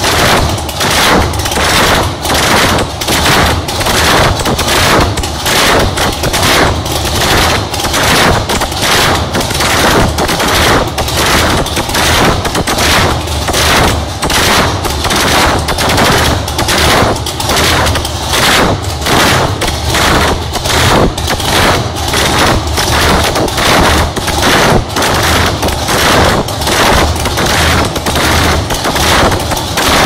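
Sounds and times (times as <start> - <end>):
rough loud engine revving: 0.0 - 30.0.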